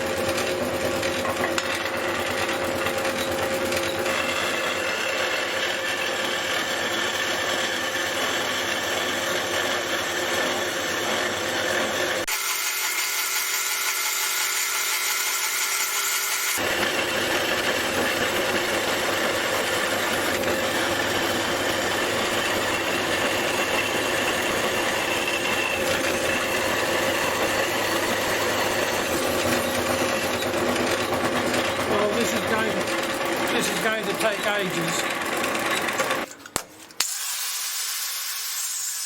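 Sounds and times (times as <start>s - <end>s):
bandsaw cutting metal: 0.0s - 36.3s, 37.0s - 39.0s.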